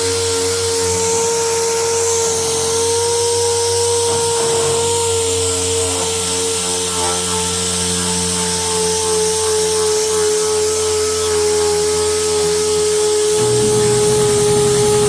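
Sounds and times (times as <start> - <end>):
sander whining: 0.0 - 15.0.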